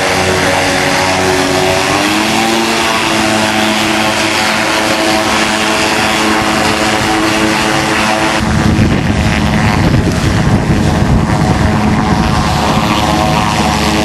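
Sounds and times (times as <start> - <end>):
engine and propeller running hard: 0.0 - 14.0.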